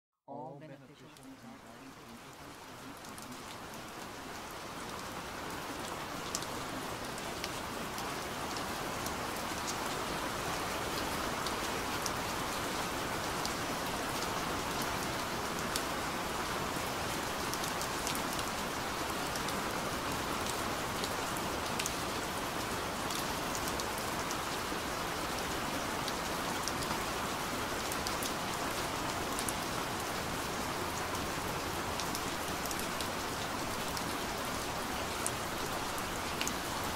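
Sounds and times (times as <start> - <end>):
steady rain falling: 0.5 - 36.9.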